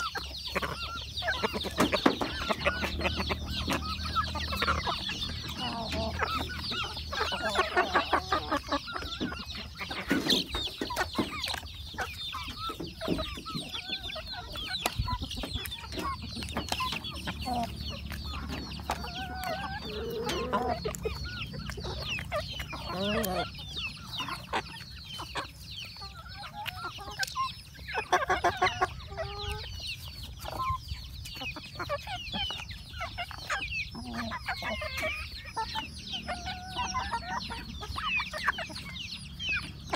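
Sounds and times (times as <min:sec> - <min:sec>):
chickens clucking: 0:00.0 - 0:39.9
high chirping: 0:00.0 - 0:39.9.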